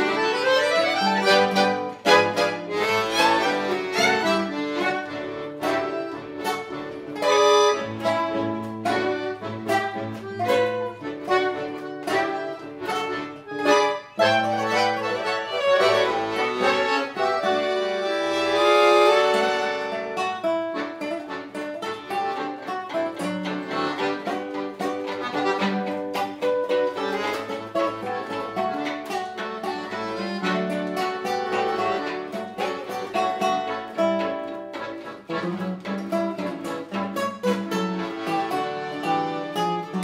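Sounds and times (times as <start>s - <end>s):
accordion notes: 0.0s - 40.0s
classical guitar plucking: 0.0s - 40.0s
violin notes: 0.0s - 40.0s.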